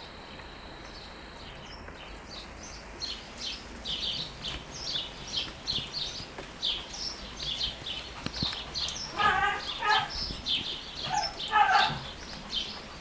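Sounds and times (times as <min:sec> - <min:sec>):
light rain on foliage: 0:00.0 - 0:13.0
songbird chirping: 0:00.2 - 0:13.0.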